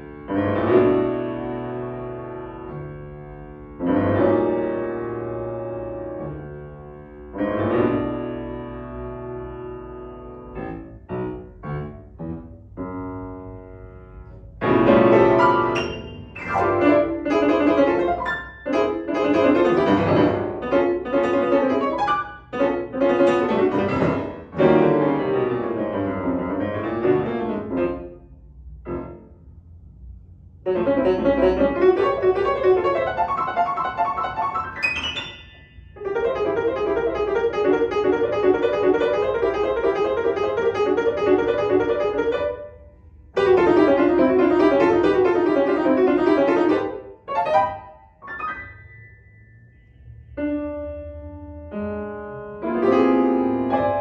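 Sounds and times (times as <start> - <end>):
solo grand piano classical music: 0.0 - 54.0.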